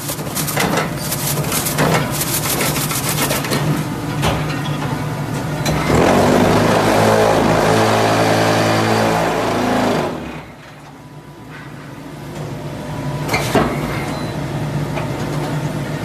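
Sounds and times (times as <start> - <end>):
press machine mechanical hum: 0.0 - 16.0.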